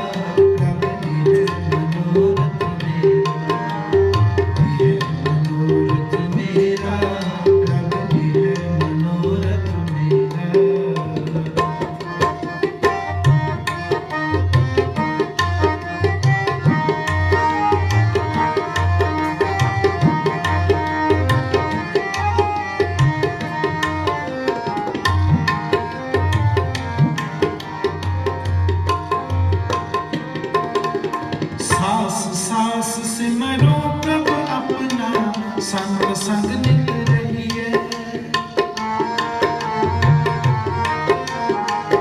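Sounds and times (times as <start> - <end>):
harmonium held-note melody: 0.0 - 42.0
tabla playing fast rhythm: 0.0 - 42.0.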